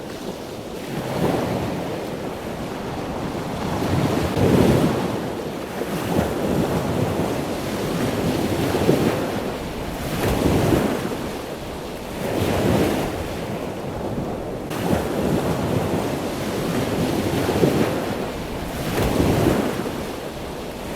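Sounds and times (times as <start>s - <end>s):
surf washing on shore: 0.0s - 20.9s
wind buffeting microphone: 0.0s - 20.9s.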